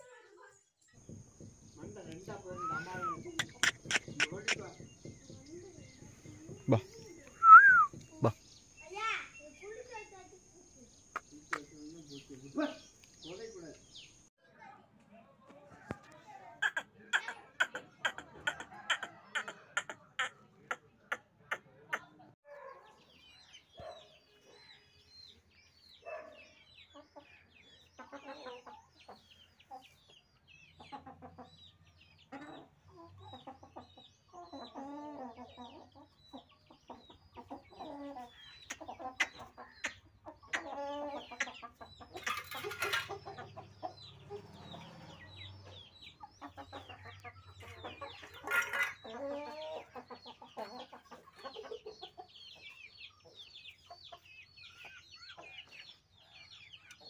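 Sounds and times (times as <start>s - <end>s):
chickens clucking: 0.9s - 14.1s, 15.4s - 24.6s, 25.2s - 57.0s.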